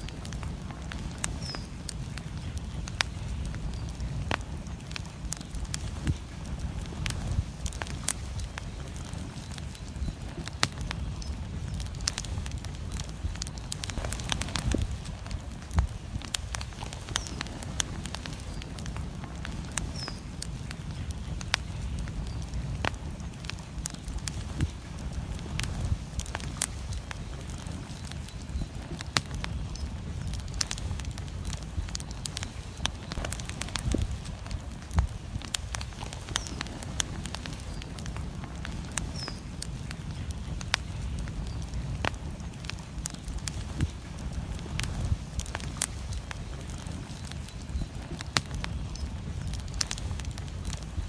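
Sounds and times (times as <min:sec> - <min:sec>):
storm wind rumbling: 0:00.0 - 0:51.0
wood fire crackling: 0:00.0 - 0:51.0.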